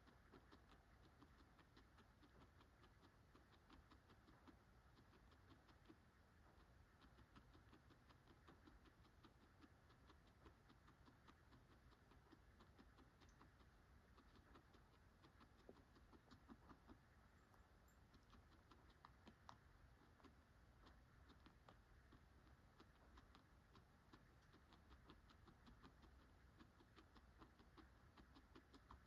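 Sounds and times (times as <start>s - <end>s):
guinea pig chewing pellets: 0.0s - 29.0s.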